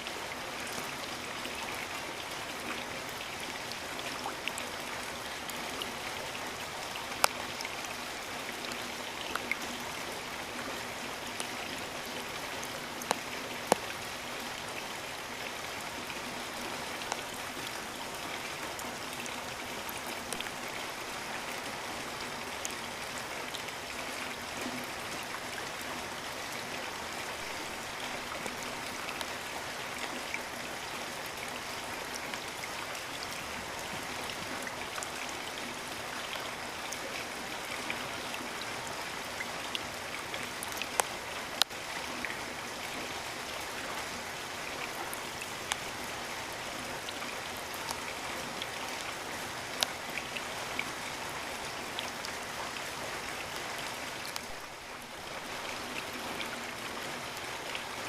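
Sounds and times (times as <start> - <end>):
raindrops striking close by: 0.0 - 58.0.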